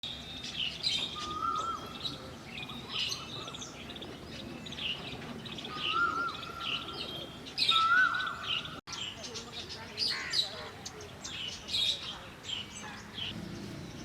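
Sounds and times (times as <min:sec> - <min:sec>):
birds chirping and twittering: 0:00.0 - 0:14.0.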